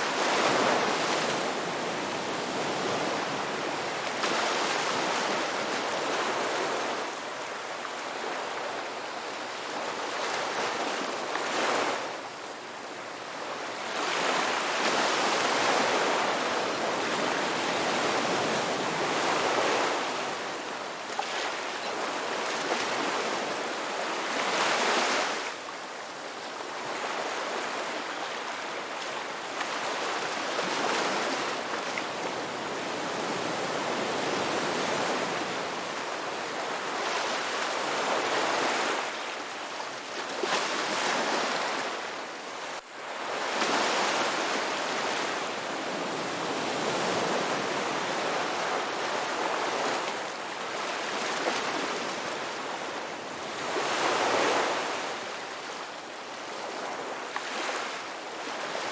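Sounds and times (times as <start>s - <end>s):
ocean waves breaking on shore: 0.0s - 58.9s.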